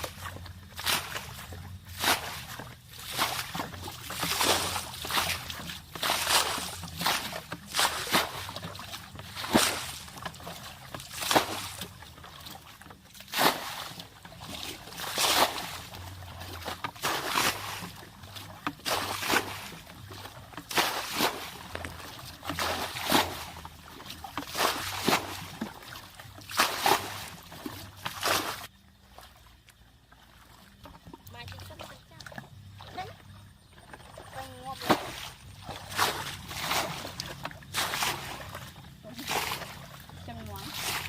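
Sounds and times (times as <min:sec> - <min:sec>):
water sloshing and splashing: 0:00.0 - 0:41.0.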